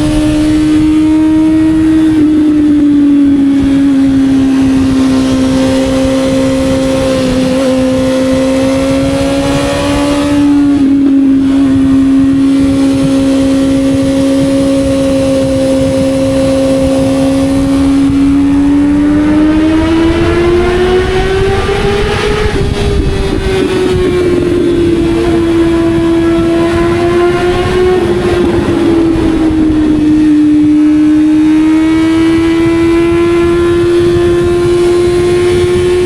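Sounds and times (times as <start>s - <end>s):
motorcycle engine at high revs: 0.0s - 36.0s
wind rumble: 0.0s - 36.0s.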